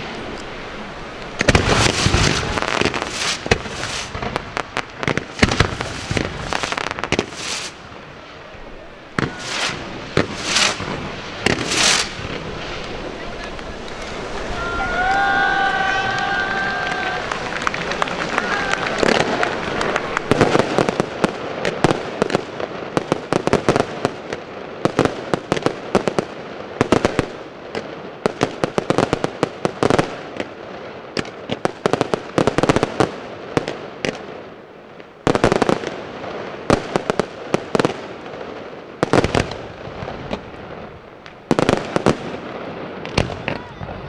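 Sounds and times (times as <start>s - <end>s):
fireworks bursts and bangs: 0.0s - 44.0s
fireworks crackling: 0.0s - 44.0s.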